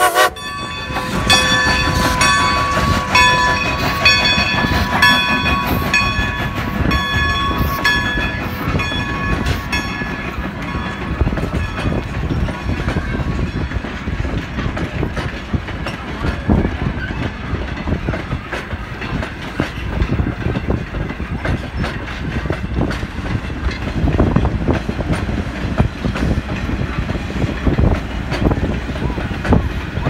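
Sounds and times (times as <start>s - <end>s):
train coaches rumbling: 0.0s - 30.0s
wheels clicking over rail joints: 0.4s - 30.0s.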